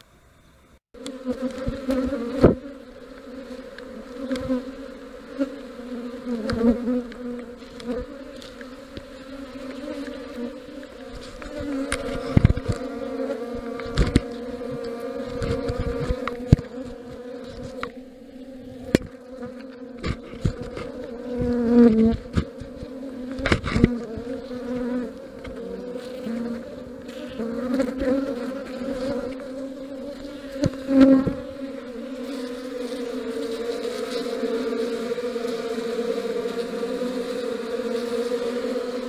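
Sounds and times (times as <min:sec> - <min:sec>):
honeybees buzzing: 0:00.8 - 0:39.0.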